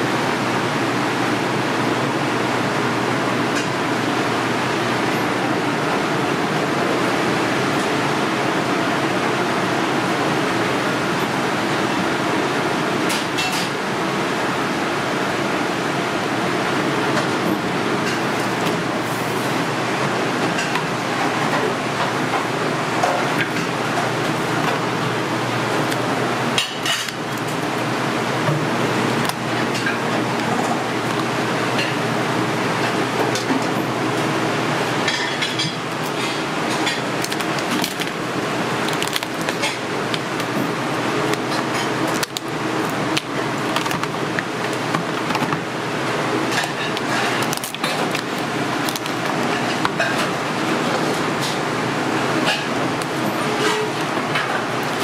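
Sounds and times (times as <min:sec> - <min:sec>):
exhaust fan running: 0:00.0 - 0:55.0
kitchen rushing background noise: 0:00.0 - 0:55.0.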